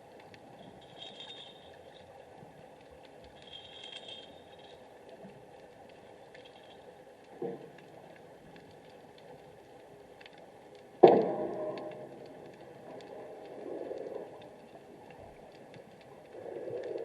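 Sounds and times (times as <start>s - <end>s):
small crackling clicks: 0.0s - 17.0s.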